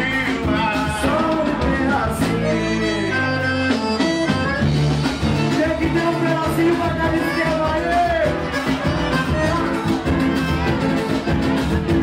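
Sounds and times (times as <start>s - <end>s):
person singing: 0.0s - 4.2s, 5.5s - 11.0s
accordion: 0.0s - 12.0s
bass: 0.0s - 12.0s
drums: 0.0s - 12.0s
guitars: 0.0s - 12.0s.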